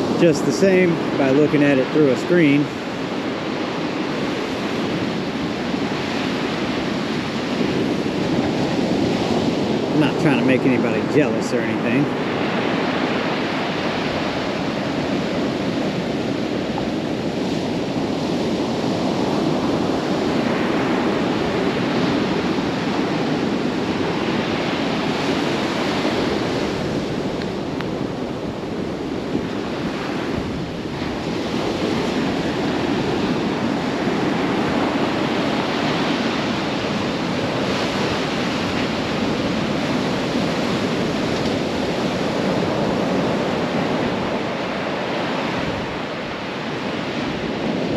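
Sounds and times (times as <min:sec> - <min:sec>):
ocean surf breaking: 0:00.0 - 0:47.9.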